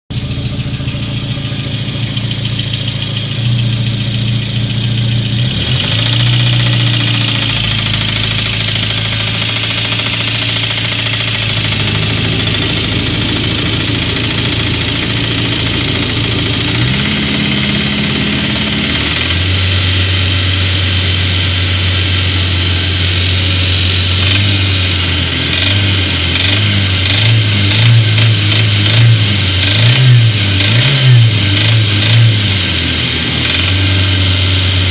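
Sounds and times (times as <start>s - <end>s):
car engine knocking: 0.0s - 34.9s
engine revving in blips: 0.2s - 34.9s.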